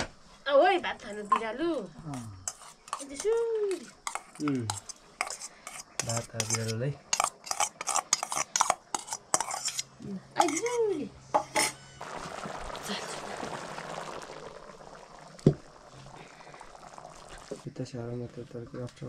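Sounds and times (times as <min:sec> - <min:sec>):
steady hiss from pot: 0:00.2 - 0:19.0.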